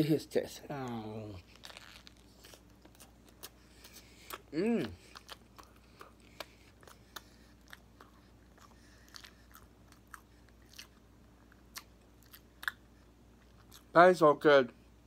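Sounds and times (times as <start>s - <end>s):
chewing food: 0.9s - 13.9s.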